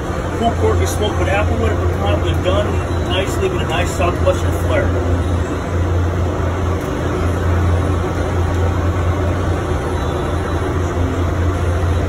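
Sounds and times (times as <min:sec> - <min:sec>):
low machine drone: 0:00.0 - 0:12.0.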